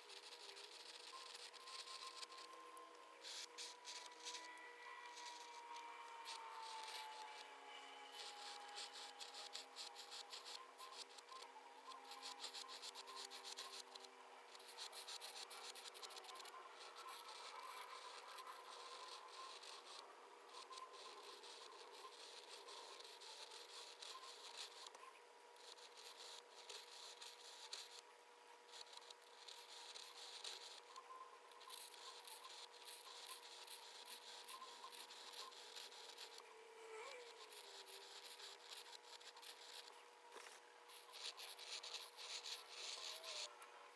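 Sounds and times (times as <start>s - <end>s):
pen scratching across paper: 0.0s - 7.5s, 8.1s - 25.0s, 25.6s - 28.1s, 28.7s - 36.4s, 37.0s - 43.5s
faint steady hum: 0.0s - 43.9s.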